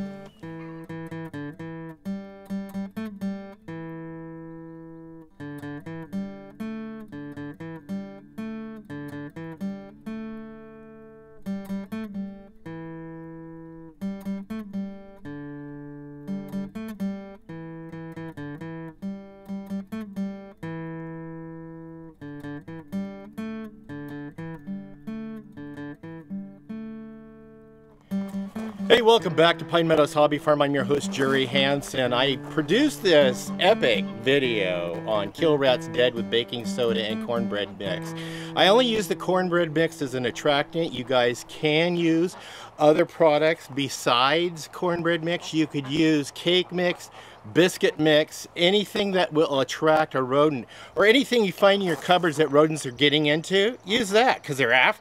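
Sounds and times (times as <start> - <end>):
acoustic guitar music: 0.0 - 55.0.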